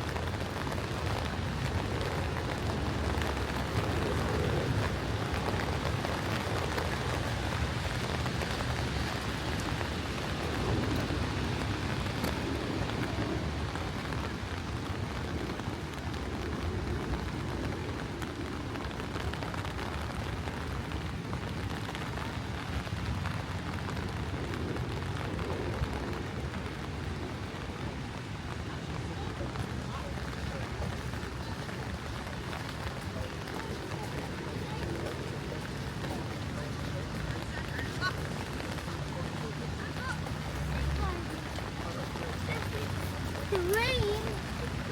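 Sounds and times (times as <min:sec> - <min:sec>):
steady rain hissing: 0:00.0 - 0:44.9.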